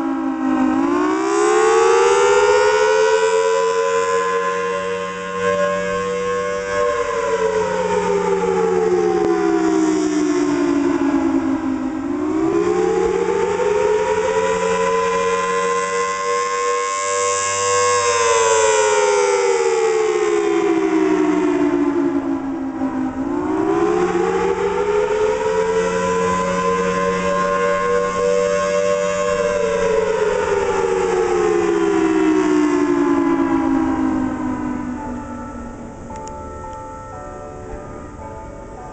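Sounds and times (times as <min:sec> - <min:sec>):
outdoor warning siren wailing: 0:00.0 - 0:38.9.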